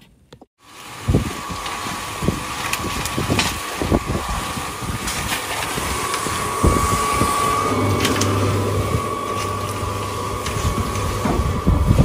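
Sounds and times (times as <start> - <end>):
cement mixer drum humming: 0.6 - 12.0
deeper hum: 0.9 - 12.0.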